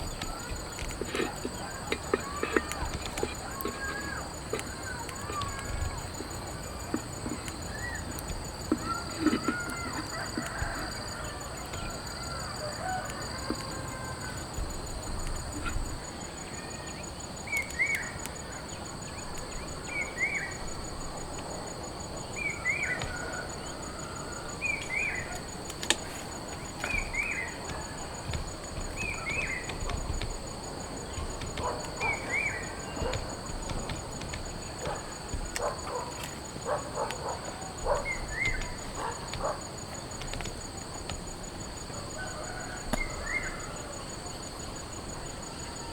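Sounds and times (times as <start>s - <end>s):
varied bird calls: 0.0s - 21.2s, 22.2s - 40.4s
high pulsing insect trills: 0.0s - 45.9s.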